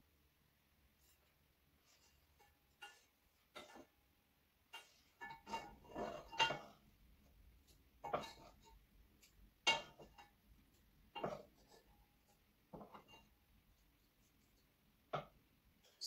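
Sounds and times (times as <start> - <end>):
wooden spoons scraping cooking pot: 1.0 - 4.0, 4.7 - 16.0.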